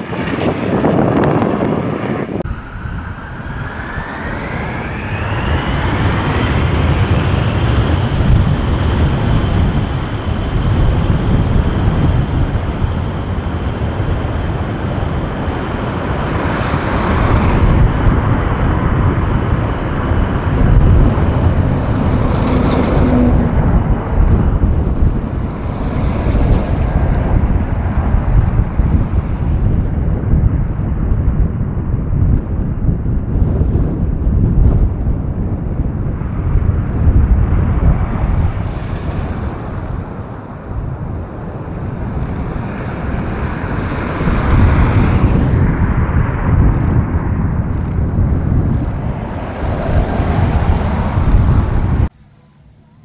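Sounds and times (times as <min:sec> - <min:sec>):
jet engines roaring at takeoff: 0:00.0 - 0:53.0.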